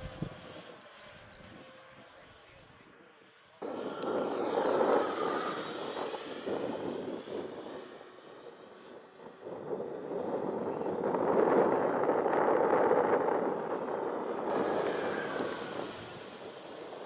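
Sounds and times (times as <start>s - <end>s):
rc jet fan whoosh and whine: 0.0s - 17.0s.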